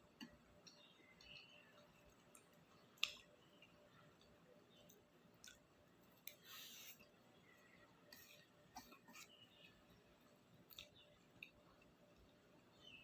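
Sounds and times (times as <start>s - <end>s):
quiet chewing: 0.0s - 12.6s.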